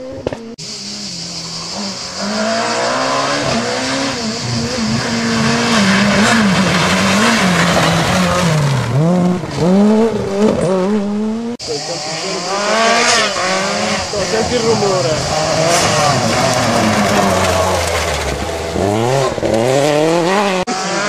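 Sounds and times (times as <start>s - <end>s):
rally car engine revving: 0.0s - 21.0s
tyre and road noise: 0.0s - 21.0s.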